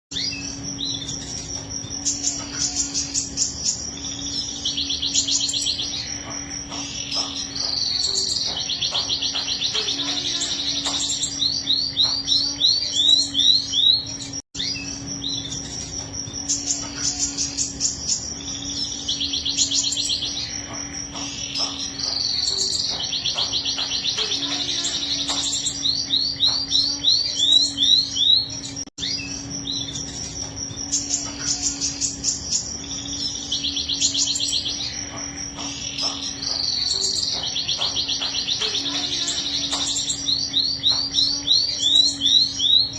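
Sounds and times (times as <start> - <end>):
canary singing trills: 0.1 - 42.9
steady low hum: 0.1 - 42.9.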